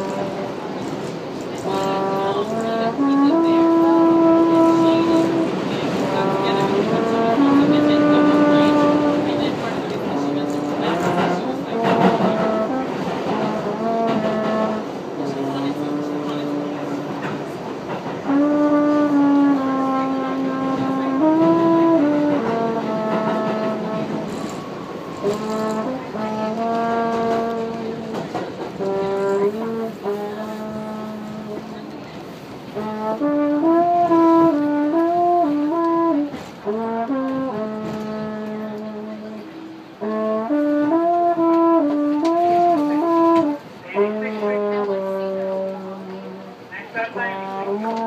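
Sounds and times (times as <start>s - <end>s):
trombone playing long notes: 0.0s - 0.9s, 1.6s - 17.5s, 18.2s - 24.6s, 25.2s - 32.1s, 32.7s - 48.0s.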